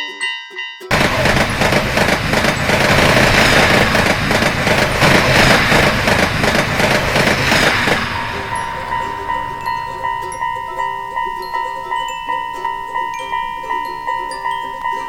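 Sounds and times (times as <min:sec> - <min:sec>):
steady tone: 0:00.9 - 0:15.0
train passing rumble: 0:00.9 - 0:15.0.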